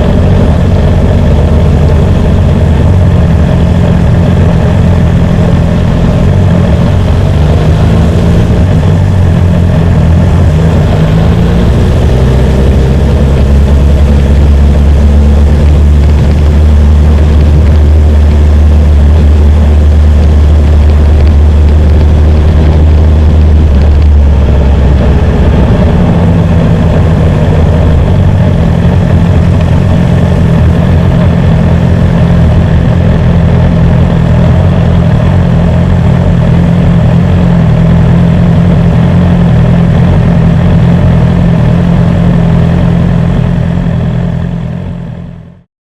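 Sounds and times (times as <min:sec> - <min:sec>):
motorcycle engine running: 0:00.0 - 0:45.7.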